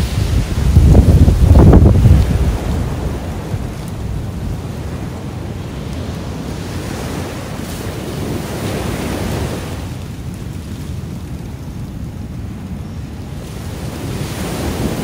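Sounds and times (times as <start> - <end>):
ocean surf washing ashore: 0.0 - 15.0
wind buffeting microphone: 0.0 - 15.0.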